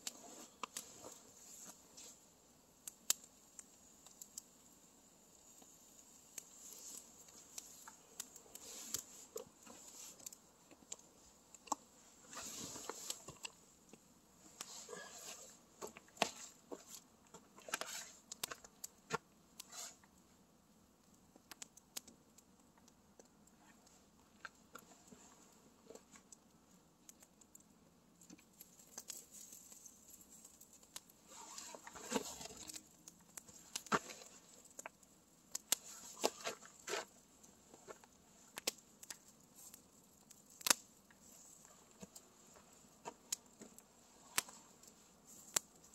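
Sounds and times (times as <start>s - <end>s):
rustle: 0.0s - 20.4s, 23.5s - 45.9s
campfire crackling: 0.0s - 45.9s.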